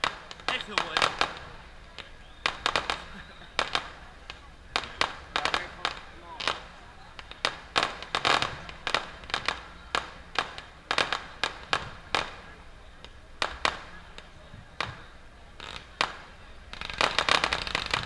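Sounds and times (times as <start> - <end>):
fireworks bangs with echo: 0.0 - 18.0.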